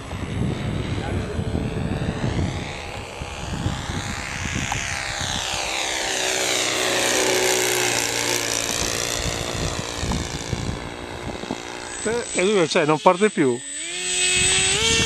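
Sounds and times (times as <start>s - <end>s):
model airplane engine fly-by: 0.0s - 15.0s.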